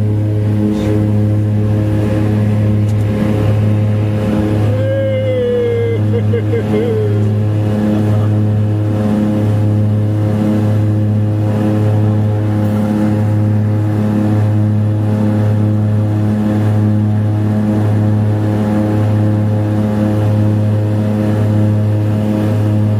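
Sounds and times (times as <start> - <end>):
turboprop plane engine drone: 0.0 - 22.9.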